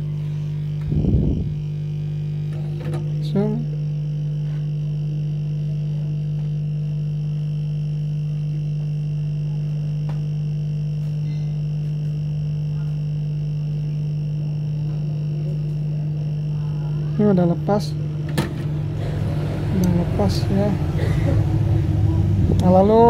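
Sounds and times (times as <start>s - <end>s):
hot air blower humming and hissing: 0.0s - 23.0s.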